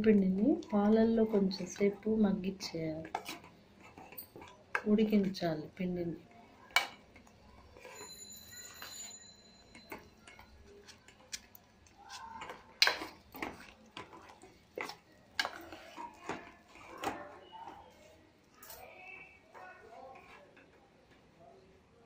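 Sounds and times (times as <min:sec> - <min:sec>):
metal spoon scraping a pot: 0:00.3 - 0:05.4, 0:06.4 - 0:20.7.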